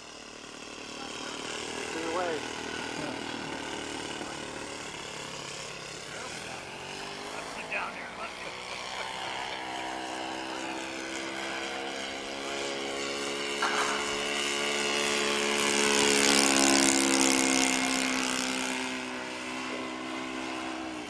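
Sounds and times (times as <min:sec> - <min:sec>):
model airplane engine: 0:00.0 - 0:21.0.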